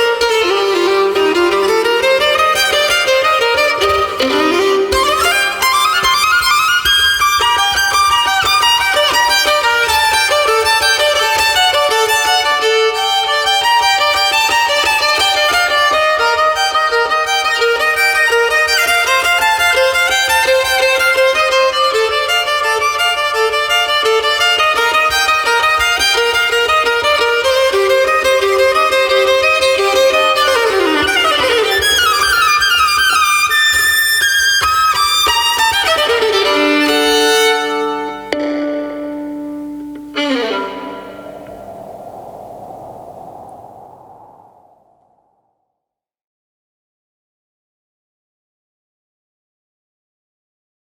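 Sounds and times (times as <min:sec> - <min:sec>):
solo violin fast passage: 0:00.0 - 0:44.5.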